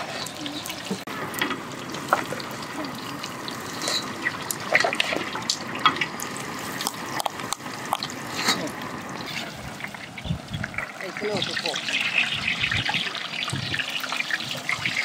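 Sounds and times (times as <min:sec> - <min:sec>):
oil sizzling and crackling: 0:00.0 - 0:15.0.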